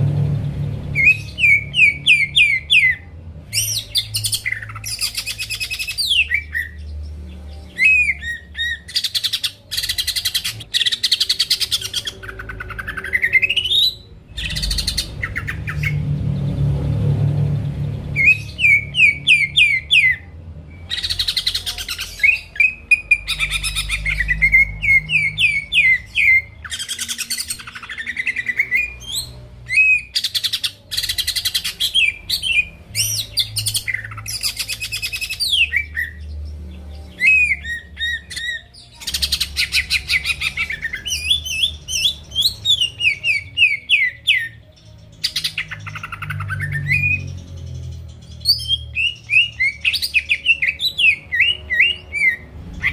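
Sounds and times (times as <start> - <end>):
bird singing whistles and trills: 0.8 - 16.0, 18.0 - 52.9.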